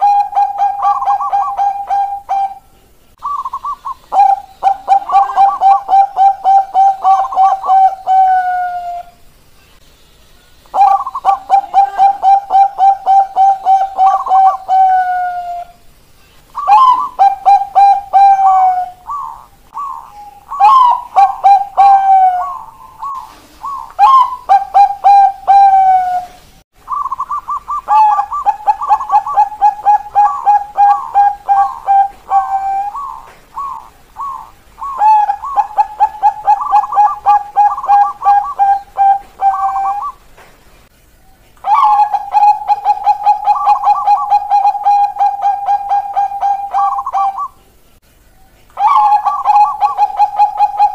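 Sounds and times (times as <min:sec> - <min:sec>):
dove cooing: 0:00.0 - 0:09.2, 0:10.7 - 0:15.8, 0:16.6 - 0:40.2, 0:41.6 - 0:47.8, 0:48.8 - 0:50.9.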